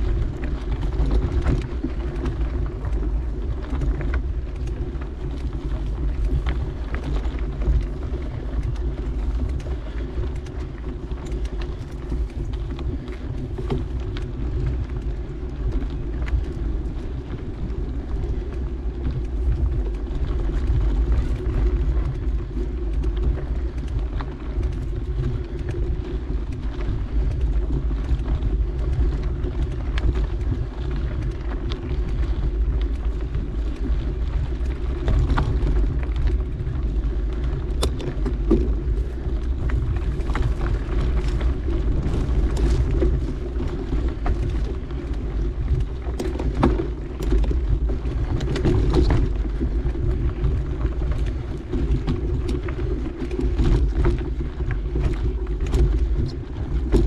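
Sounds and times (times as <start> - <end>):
bike clicks and rattles: 0.0 - 57.0
bike tyres rumbling on dirt: 0.0 - 57.0.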